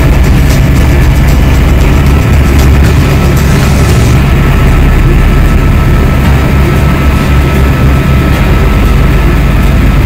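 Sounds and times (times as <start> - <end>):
helicopter rotor and engine drone: 0.0 - 10.0
thin steady whine: 0.0 - 10.0.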